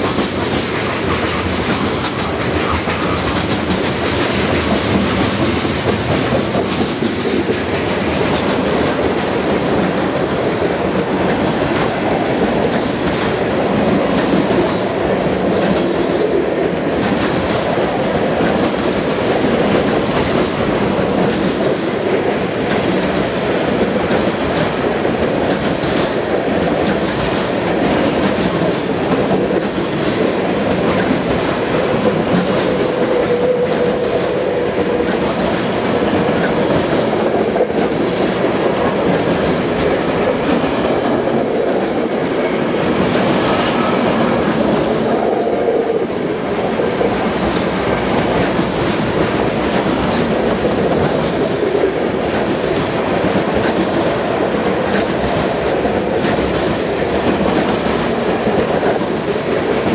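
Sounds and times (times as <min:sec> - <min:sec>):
train wheels rumbling on rail: 0:00.0 - 0:59.9
wheels clacking over rail joints: 0:00.0 - 0:59.9.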